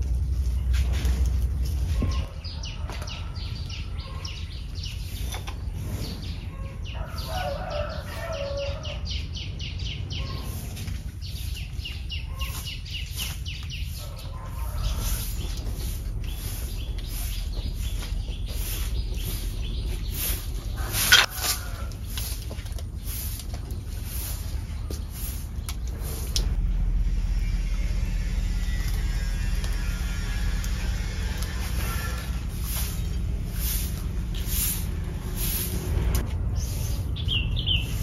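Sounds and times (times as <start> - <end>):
birds chirping: 0.0 - 26.6, 28.5 - 38.0
steady low rumble: 0.0 - 38.0.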